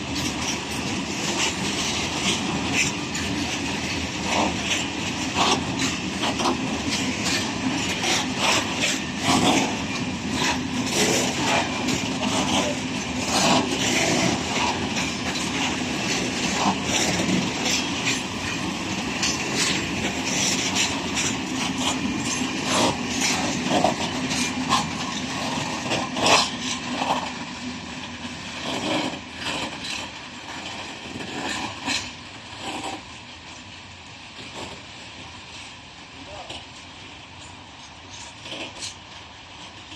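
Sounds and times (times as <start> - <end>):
wagon wheels clattering over rail joints: 0.0 - 33.7, 36.3 - 39.9
train rumble: 0.0 - 39.9.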